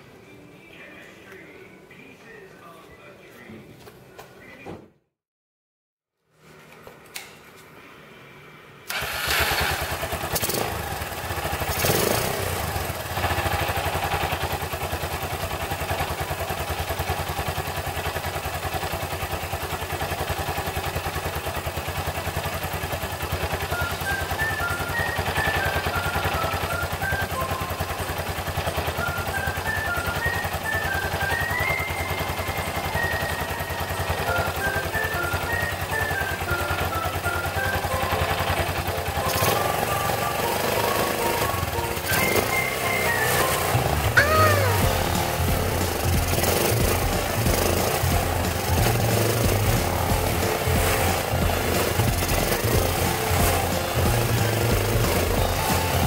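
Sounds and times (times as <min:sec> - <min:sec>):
motorcycle engine starting and idling: 0:06.4 - 0:56.0.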